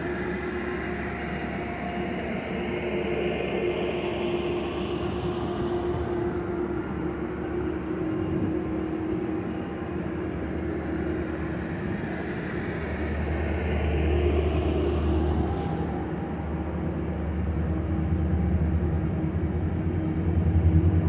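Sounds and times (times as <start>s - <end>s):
constant hum: 0.0s - 21.0s
train wheels rumbling on rails: 0.0s - 21.0s.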